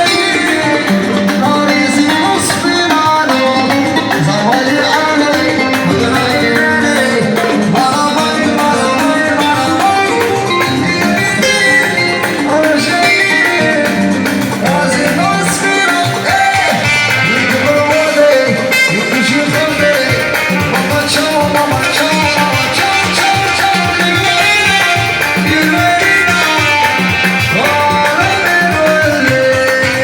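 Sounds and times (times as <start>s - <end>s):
live band music: 0.0s - 30.0s.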